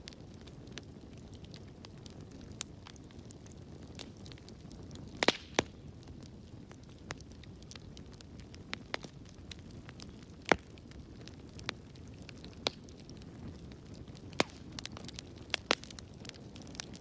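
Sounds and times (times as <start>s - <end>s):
fire crackling and popping: 0.0s - 17.0s
wood fire rumbling and hissing: 0.0s - 17.0s.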